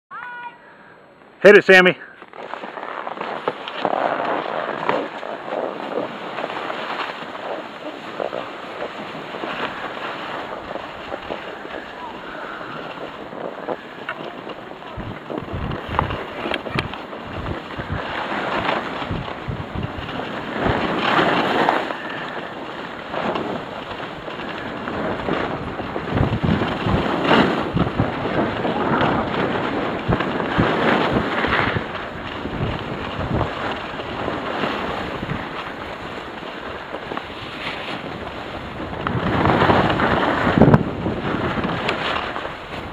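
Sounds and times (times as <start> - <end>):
skis scraping on snow: 1.8 - 42.9
wind buffeting microphone: 3.7 - 42.9.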